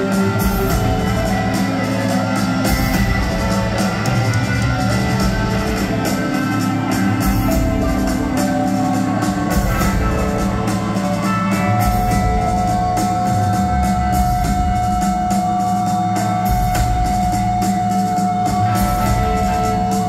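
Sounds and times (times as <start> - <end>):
drum kit: 0.0 - 20.0
electric guitar: 0.0 - 20.0.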